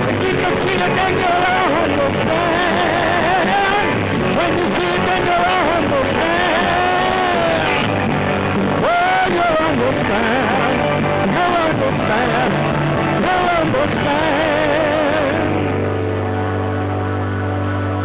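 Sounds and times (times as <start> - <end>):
rock band music: 0.0 - 18.0.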